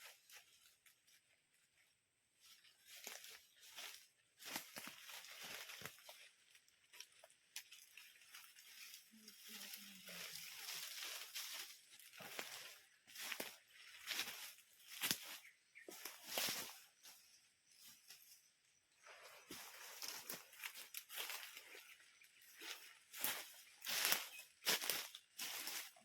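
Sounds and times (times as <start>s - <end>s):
crackling and rustling leaves: 0.0s - 18.4s, 19.0s - 26.0s.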